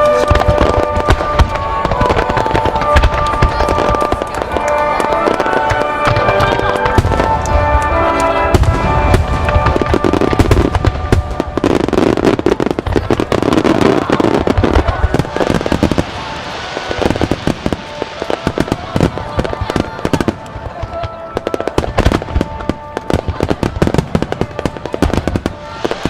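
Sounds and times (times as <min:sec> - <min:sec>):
fireworks bursting with bangs: 0:00.0 - 0:26.0
music playing: 0:00.0 - 0:26.0.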